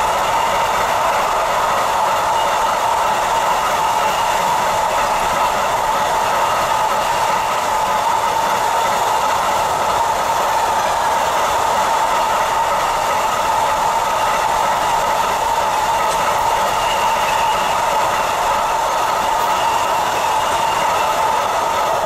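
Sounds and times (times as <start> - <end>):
freight train wheels on rails: 0.0 - 22.0.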